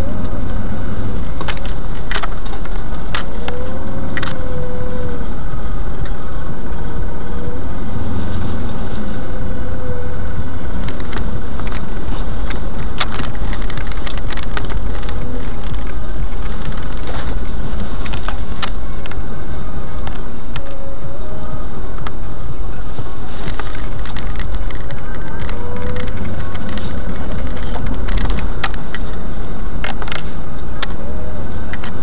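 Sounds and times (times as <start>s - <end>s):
car engine rumbling: 0.0s - 32.0s
faint wavering whine: 0.0s - 32.0s.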